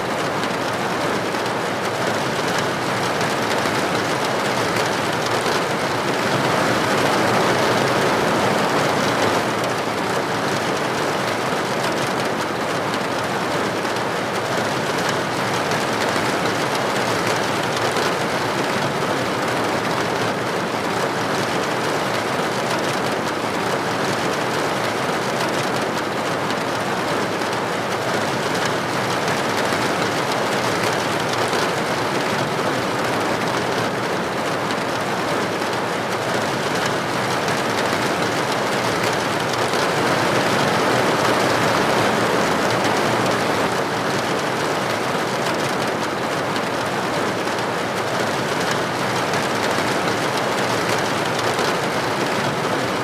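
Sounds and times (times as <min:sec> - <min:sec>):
rain falling on a roof: 0:00.0 - 0:53.0.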